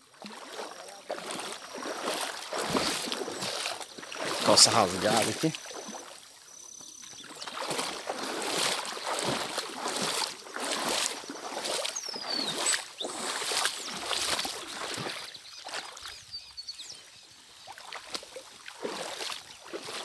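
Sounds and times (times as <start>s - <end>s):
footsteps wading through water: 0.0s - 20.0s.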